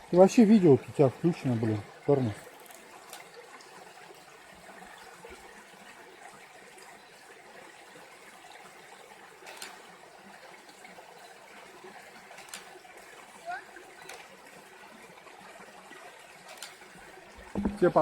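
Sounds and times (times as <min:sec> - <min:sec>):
stream running water: 0:00.0 - 0:18.0.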